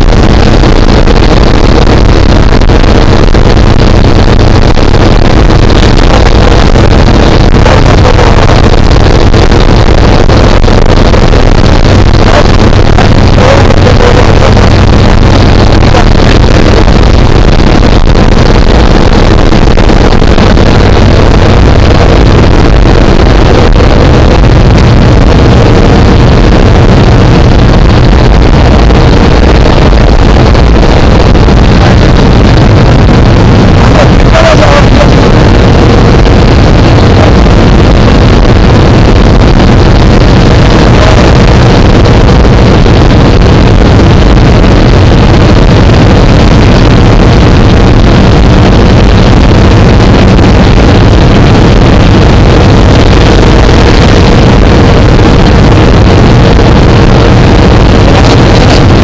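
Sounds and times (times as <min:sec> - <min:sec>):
rushing air: 0:00.0 - 0:59.0.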